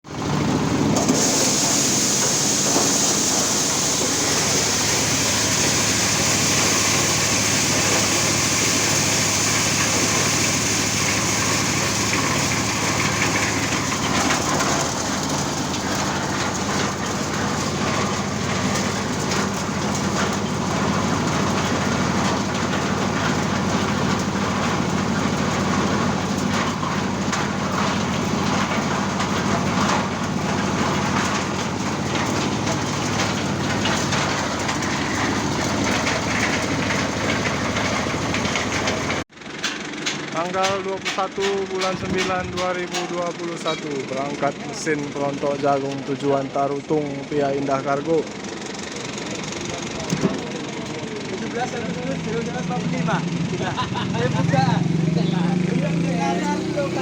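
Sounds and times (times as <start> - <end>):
engine hum: 0.0 - 45.7, 48.1 - 57.0
corn sheller rattling: 0.2 - 46.6, 47.4 - 57.0.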